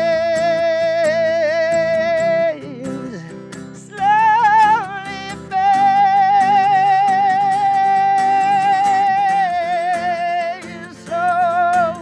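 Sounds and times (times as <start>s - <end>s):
man singing with vibrato: 0.0s - 12.0s
plucked acoustic guitar: 0.0s - 12.0s.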